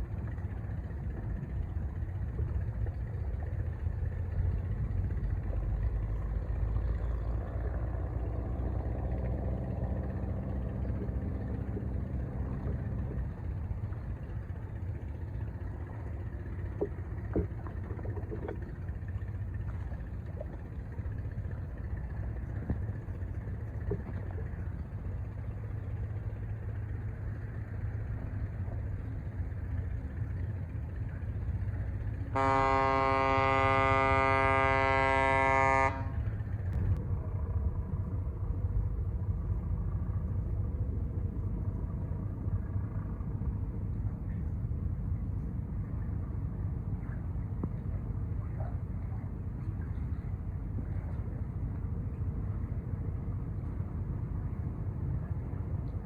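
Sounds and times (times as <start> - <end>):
ship engine rumble: 0.0 - 56.0.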